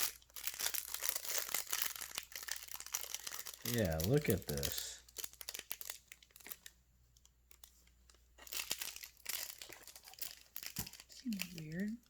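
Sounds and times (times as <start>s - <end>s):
card wrappers crinkling: 0.0s - 12.0s.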